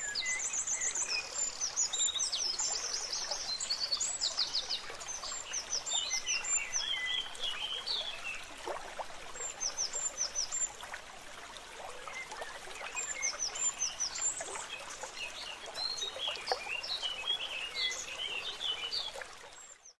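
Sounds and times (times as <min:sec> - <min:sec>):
faint steady hiss: 0:00.0 - 0:19.7.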